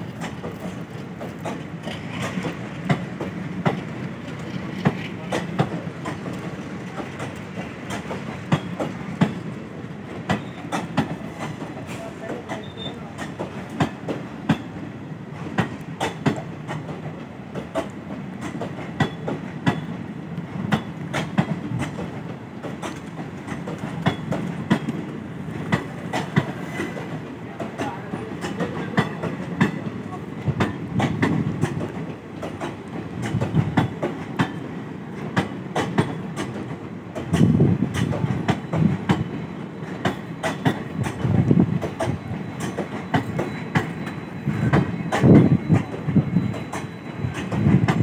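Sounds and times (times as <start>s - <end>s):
train wheels rumbling on rail: 0.0s - 48.0s
wheels clacking over rail joints: 0.0s - 48.0s.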